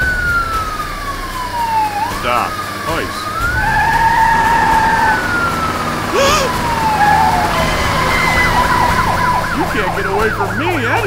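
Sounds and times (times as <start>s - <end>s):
low engine rumble: 0.0s - 11.0s
police siren wailing: 0.0s - 11.0s.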